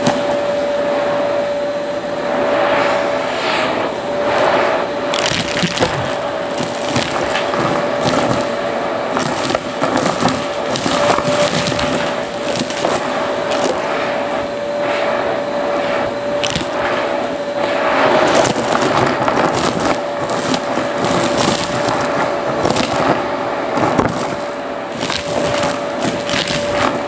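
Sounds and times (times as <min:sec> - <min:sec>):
vacuum cleaner whining: 0:00.0 - 0:27.0.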